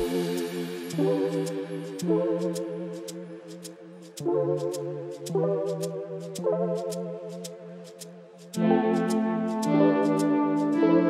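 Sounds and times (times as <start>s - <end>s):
faint light ticks: 0.0s - 10.7s.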